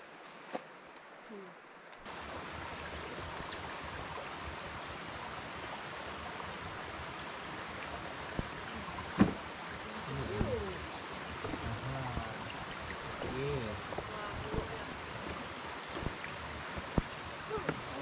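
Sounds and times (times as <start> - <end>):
stream water flowing: 2.0 - 18.0.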